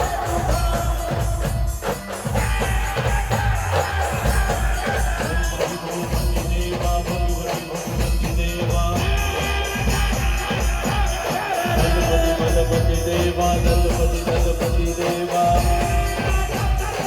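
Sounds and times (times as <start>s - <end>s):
deep drum beat: 0.0s - 17.0s
jingling percussion: 0.0s - 17.0s
live band playing: 0.0s - 17.0s.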